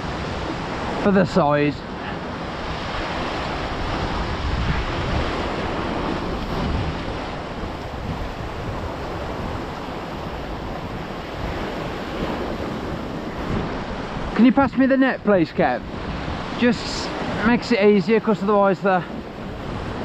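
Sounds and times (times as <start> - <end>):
sea surf washing against rocks: 0.0 - 20.0
wind buffeting microphone: 0.0 - 20.0.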